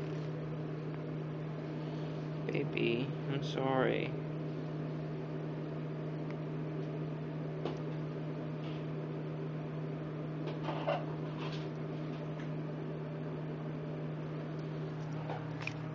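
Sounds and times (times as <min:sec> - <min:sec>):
low electrical hum: 0:00.0 - 0:15.9.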